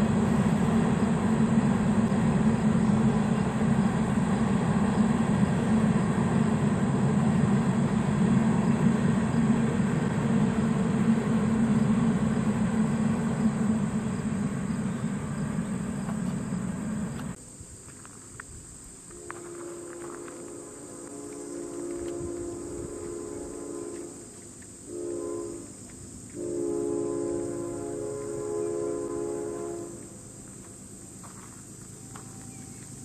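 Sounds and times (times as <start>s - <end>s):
train rumbling over bridge: 0.0s - 17.4s, 18.1s - 33.0s
insects trilling: 1.0s - 33.0s.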